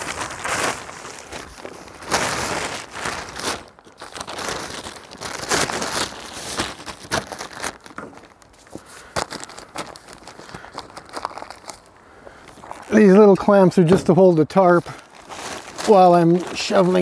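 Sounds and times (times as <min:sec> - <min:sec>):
plastic tarp crinkling: 0:00.0 - 0:17.0
yard waste crunching: 0:00.0 - 0:17.0.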